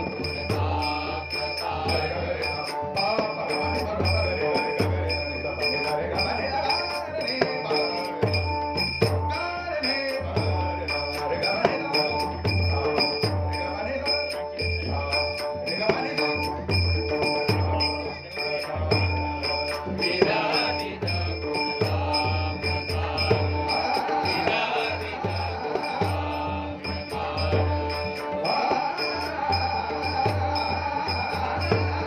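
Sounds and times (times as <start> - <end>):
hand cymbals jingling: 0.0 - 32.0
long held tones: 0.0 - 32.0.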